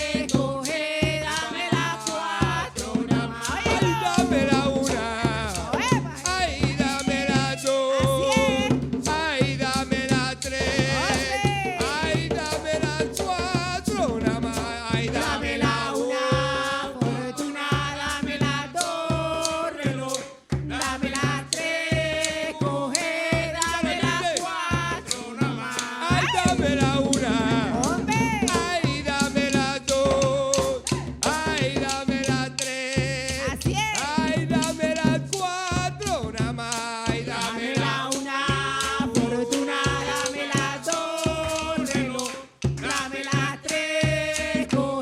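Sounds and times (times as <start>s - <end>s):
hand drums: 0.0s - 45.0s
shaken percussion: 0.0s - 45.0s.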